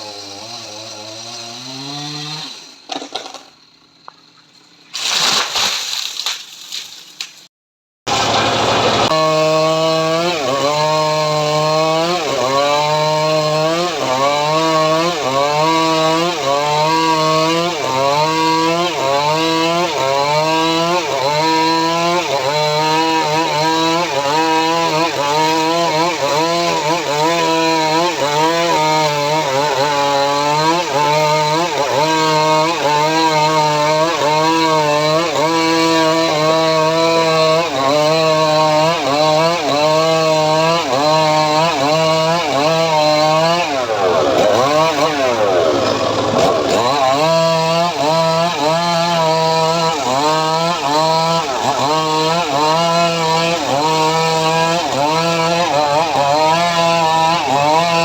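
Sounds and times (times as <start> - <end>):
engine-powered saw cutting wood: 0.0 - 3.8, 8.1 - 58.0.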